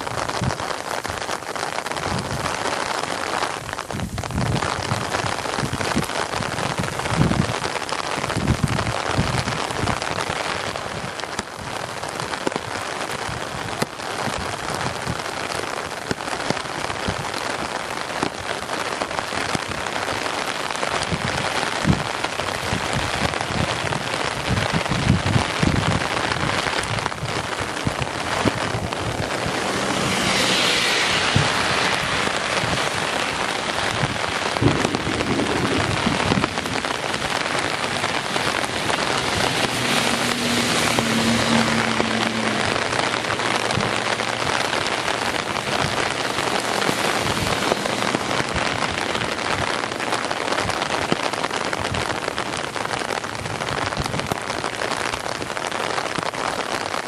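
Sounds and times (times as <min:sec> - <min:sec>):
torrential rain hissing: 0:00.0 - 0:57.0
wind thumps on microphone: 0:00.0 - 0:57.0.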